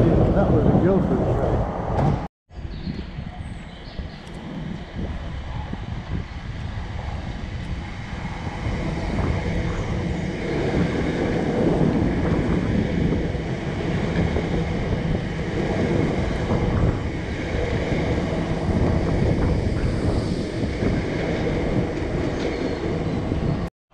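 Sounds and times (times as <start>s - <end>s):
wind buffeting microphone: 0.0s - 23.7s
train wheels rumbling on rail: 4.1s - 23.7s.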